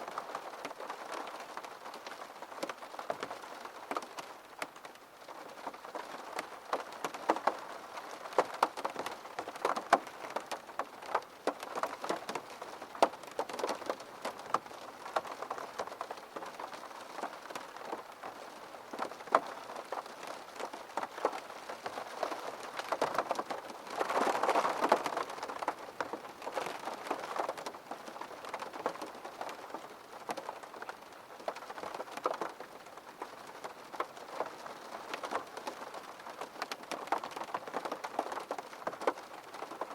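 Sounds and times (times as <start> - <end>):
rain drops tapping on glass: 0.1 - 39.9.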